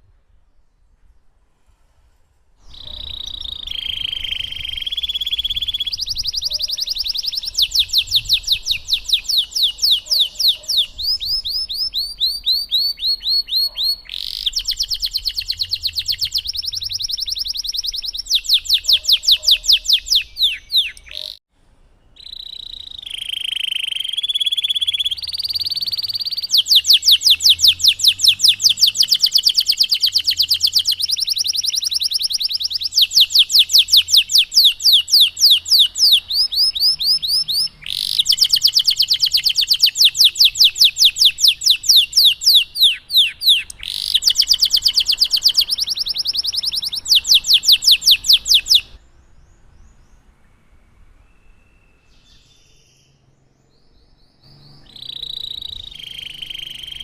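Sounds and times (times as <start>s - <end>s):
canary singing: 2.6s - 21.4s, 22.2s - 53.2s, 54.1s - 57.0s.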